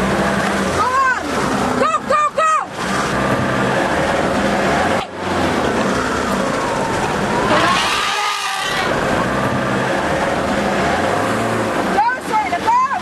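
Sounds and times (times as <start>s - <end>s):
car engine idling: 0.0s - 13.0s
outdoor noise: 0.0s - 13.0s.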